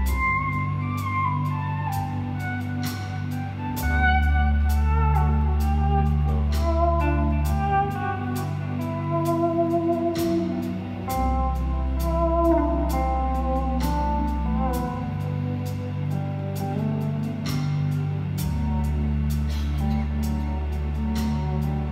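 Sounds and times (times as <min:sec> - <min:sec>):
electric guitar melody: 0:00.0 - 0:21.9
held bass notes: 0:00.0 - 0:21.9.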